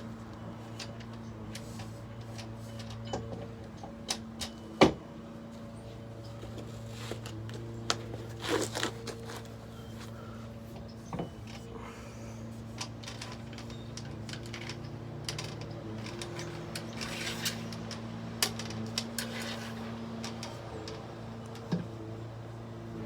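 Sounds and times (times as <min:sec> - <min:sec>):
steady low hum: 0:03.6 - 0:23.0.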